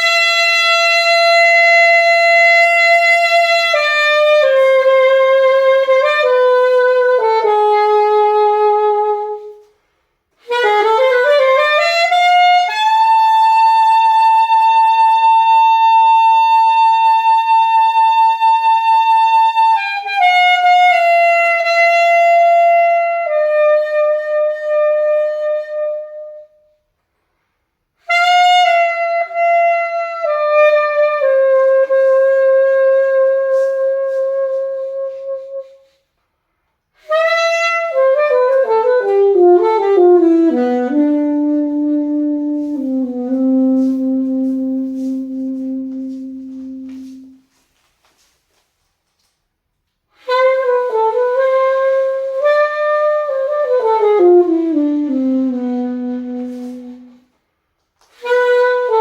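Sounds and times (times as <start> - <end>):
solo alto saxophone: 0.0 - 27.0, 27.9 - 36.2, 36.8 - 48.1, 49.9 - 59.0.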